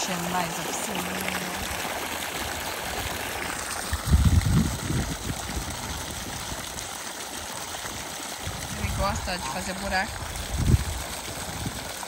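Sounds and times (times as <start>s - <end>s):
running trickling water: 0.0s - 12.0s.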